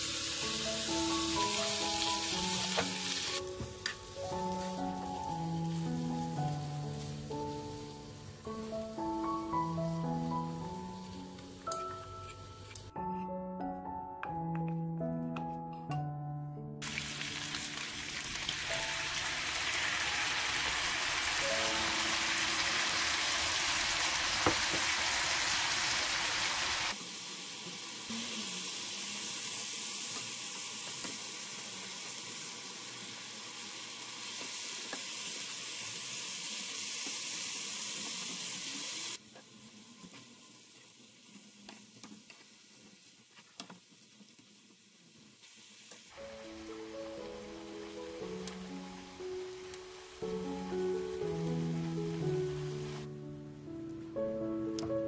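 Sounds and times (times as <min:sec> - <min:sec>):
meat sizzling in a frying pan: 0:00.0 - 0:11.7, 0:16.8 - 0:53.1.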